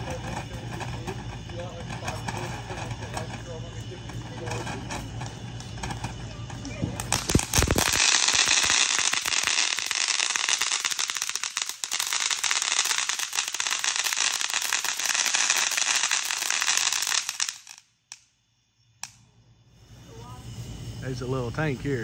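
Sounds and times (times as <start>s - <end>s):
firework fountain hissing crackle: 0.0s - 22.0s.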